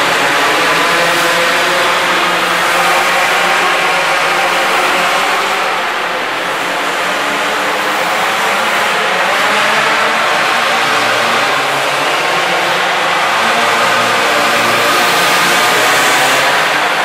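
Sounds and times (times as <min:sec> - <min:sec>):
minibike engine at high revs: 0:00.0 - 0:17.0.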